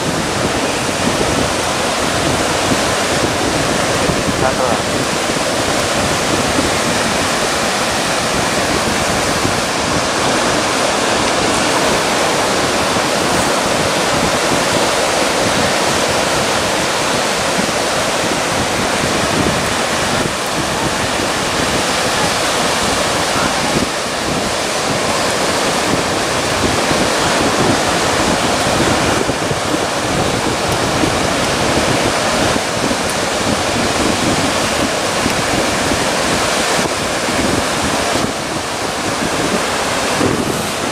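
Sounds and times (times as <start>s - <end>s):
surf washing over reef: 0.0s - 40.9s.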